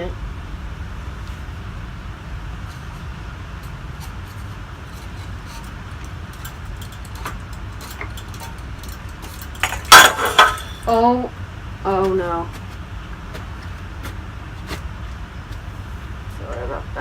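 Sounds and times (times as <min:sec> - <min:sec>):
ceiling fan hum: 0:00.0 - 0:17.0
fan clattering: 0:00.0 - 0:17.0.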